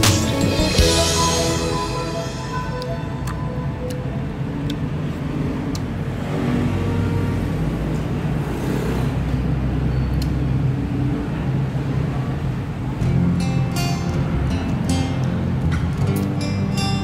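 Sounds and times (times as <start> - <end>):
passing motor vehicle rumble: 0.0 - 16.8.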